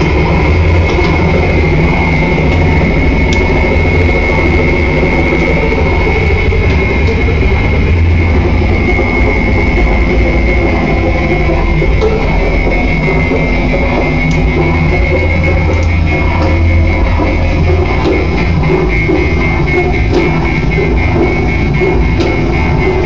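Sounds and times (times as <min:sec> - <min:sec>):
heavy low synth drone: 0:00.0 - 0:23.0
steady high synth tone: 0:00.0 - 0:23.0.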